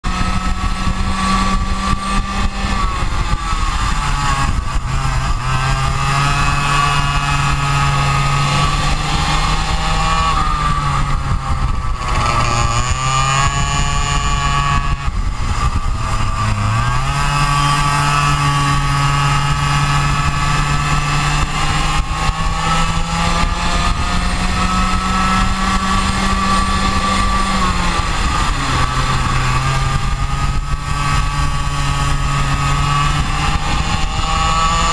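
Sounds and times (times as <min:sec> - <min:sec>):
go-kart engine running hard: 0:00.0 - 0:34.9.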